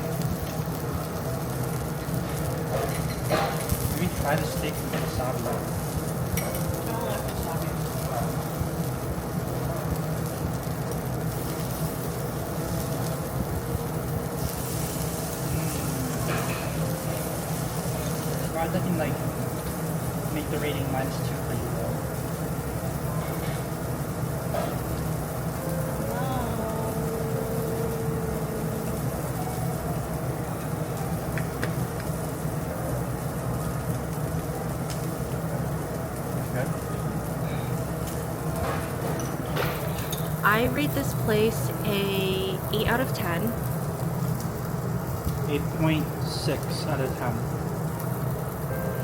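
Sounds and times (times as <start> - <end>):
grill hum and rumble: 0.0 - 49.0
meat sizzling: 0.0 - 49.0.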